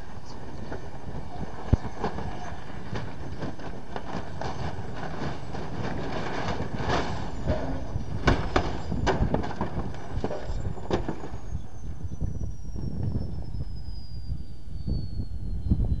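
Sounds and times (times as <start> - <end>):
high whine falling in pitch: 0.0 - 16.0
low rumble: 0.0 - 16.0.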